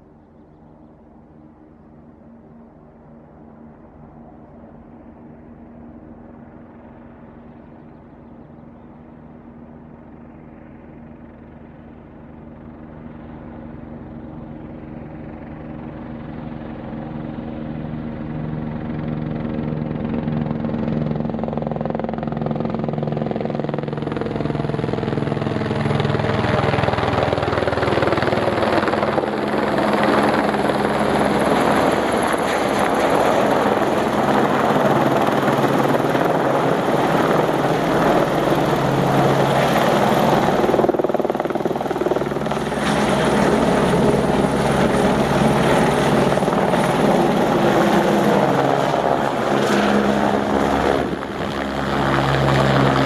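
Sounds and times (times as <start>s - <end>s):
helicopter rotor and turbine: 0.0s - 53.0s.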